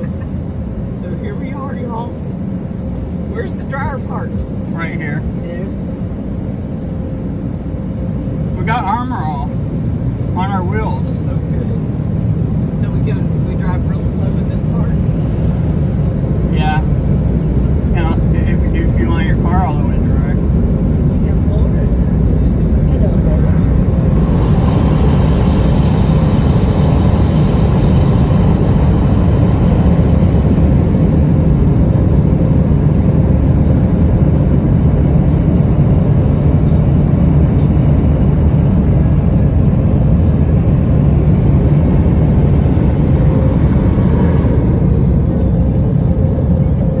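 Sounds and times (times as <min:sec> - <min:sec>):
car wash dryer blowers: 0:00.0 - 0:47.0.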